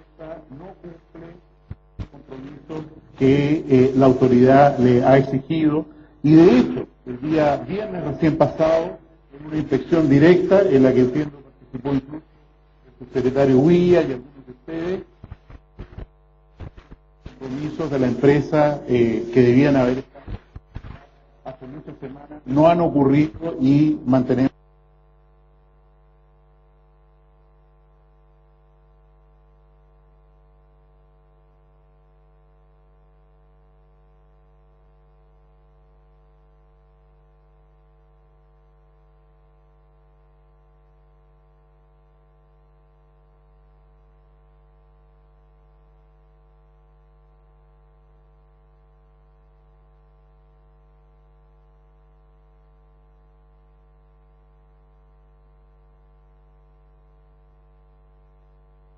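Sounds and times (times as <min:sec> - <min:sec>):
faint electrical mains hum: 0:00.0 - 0:58.9.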